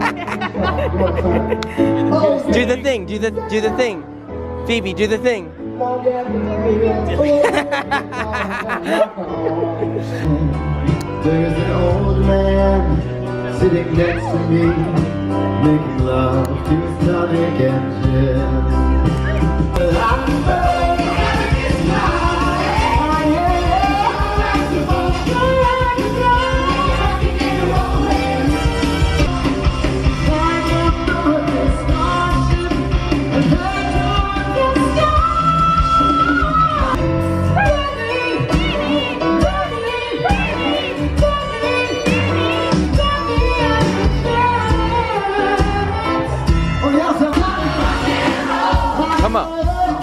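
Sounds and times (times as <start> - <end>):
backing music with steady beat: 6.3 - 50.0.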